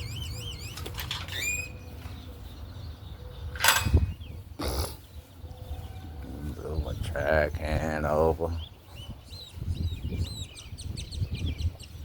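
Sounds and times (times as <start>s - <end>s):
birds warbling and whistling: 0.0s - 12.0s.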